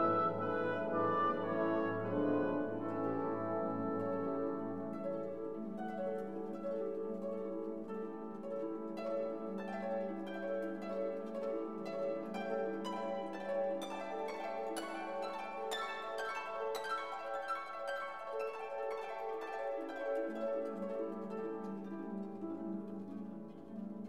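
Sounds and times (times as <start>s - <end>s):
instrumental music with plucked notes: 0.0s - 24.0s.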